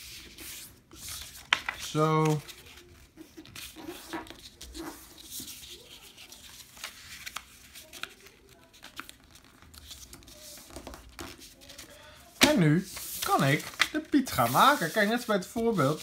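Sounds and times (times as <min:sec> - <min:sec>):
paper rustling and crackling: 0:00.1 - 0:16.0.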